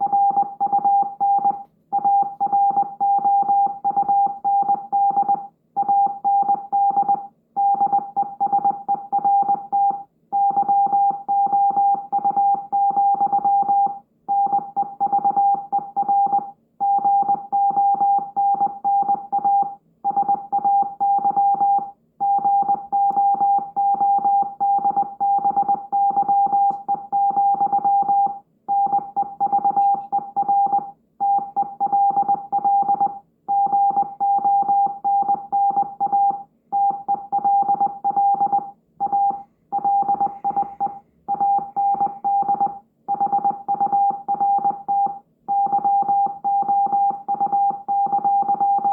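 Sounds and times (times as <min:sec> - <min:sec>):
morse code beeps: 0:00.0 - 0:48.9.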